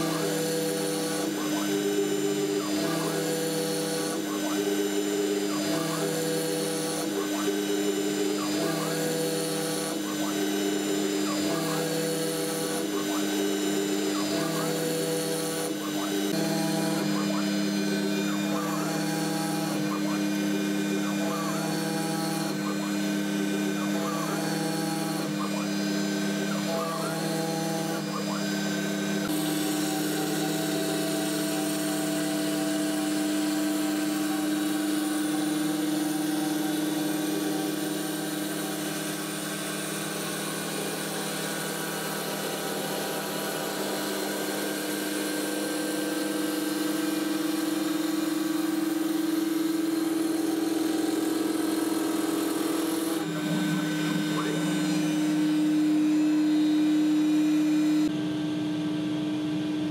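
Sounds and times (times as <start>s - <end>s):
wood router whining: 0.0s - 59.9s.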